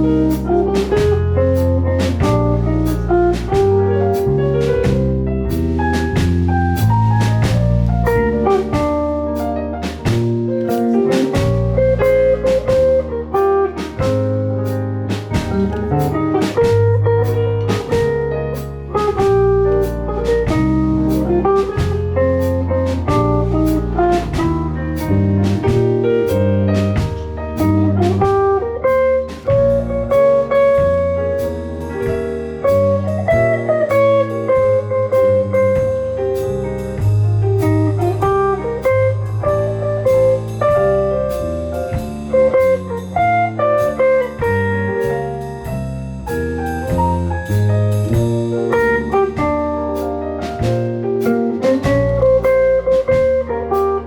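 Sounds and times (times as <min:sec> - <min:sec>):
jazz blues guitar: 0:00.0 - 0:54.0
percussion strokes: 0:00.0 - 0:54.0
walking bass line: 0:00.0 - 0:54.0.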